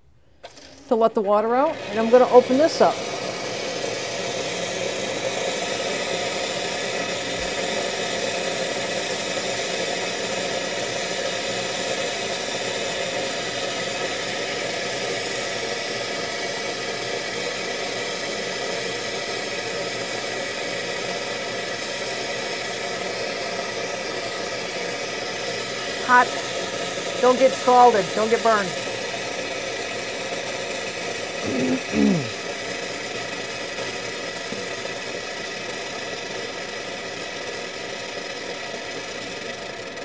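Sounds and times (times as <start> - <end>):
hot water and steam hissing: 1.2 - 40.0.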